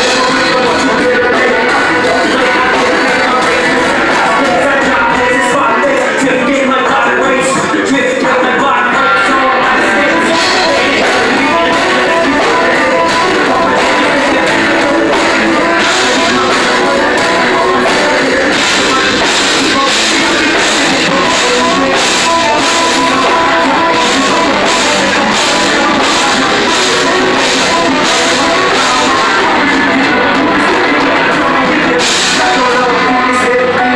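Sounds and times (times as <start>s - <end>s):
drum kit beat: 0.0s - 33.9s
electric guitar: 0.0s - 33.9s
person singing: 0.0s - 33.9s.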